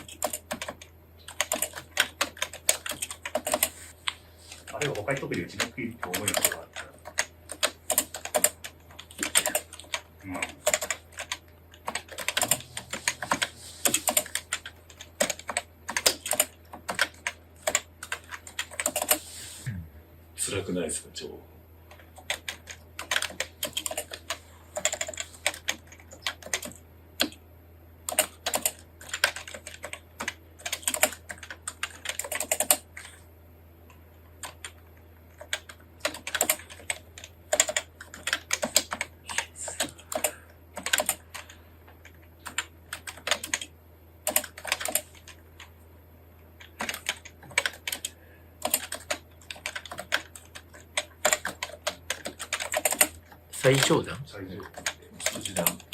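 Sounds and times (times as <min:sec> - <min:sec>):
fast typing on keyboard: 0:00.0 - 0:19.2, 0:21.9 - 0:27.4, 0:28.0 - 0:33.2, 0:34.4 - 0:45.7, 0:46.6 - 0:55.9
steady low hum: 0:00.0 - 0:55.9.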